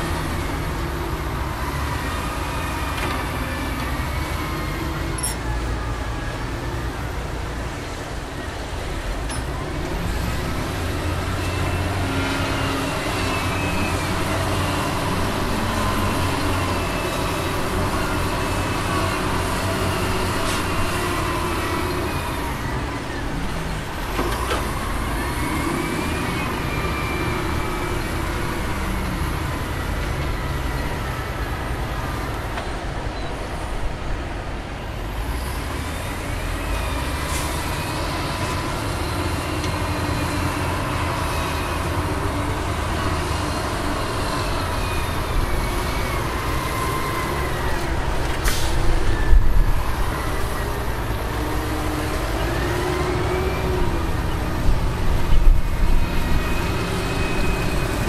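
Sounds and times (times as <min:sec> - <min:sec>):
heavy diesel machinery engine: 0:00.0 - 0:58.0.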